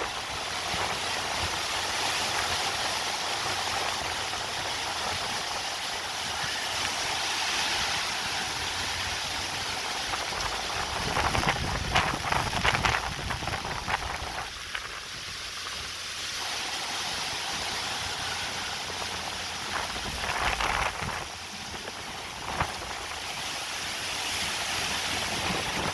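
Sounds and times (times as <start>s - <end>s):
heavy rain: 0.0s - 25.9s
hurricane wind: 0.0s - 25.9s.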